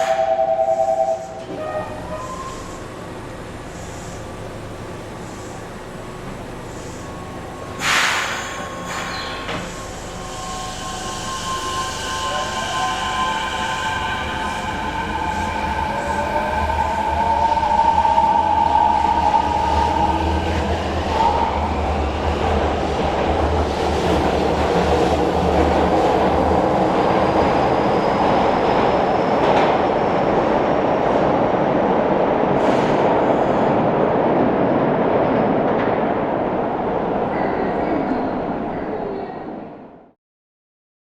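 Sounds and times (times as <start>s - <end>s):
wheels rushing on rail: 0.0s - 39.2s.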